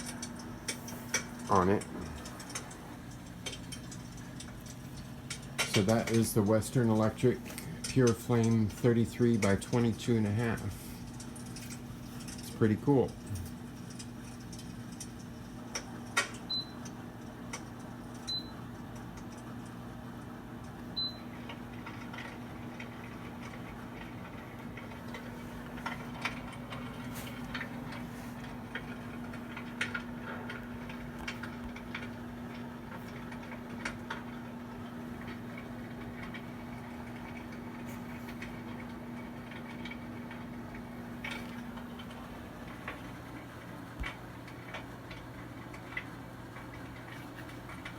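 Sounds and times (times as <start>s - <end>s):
soft crackling clicks and pops: 0.0s - 47.9s
steady low hum: 0.0s - 47.9s.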